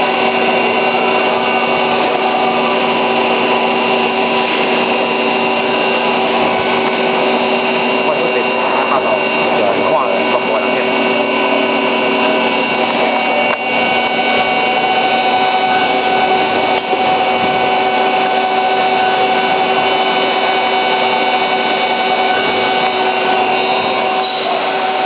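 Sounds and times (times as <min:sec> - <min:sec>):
lathe whining: 0:00.0 - 0:25.0
machining noise: 0:00.0 - 0:25.0.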